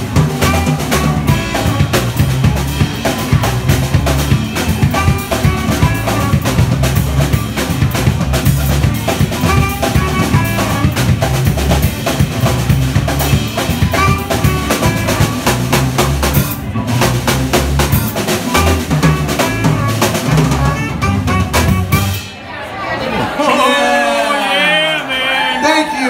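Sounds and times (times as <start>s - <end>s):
electric guitar: 0.0s - 22.2s
low bass line: 0.0s - 22.3s
drum kit beat: 0.0s - 22.4s.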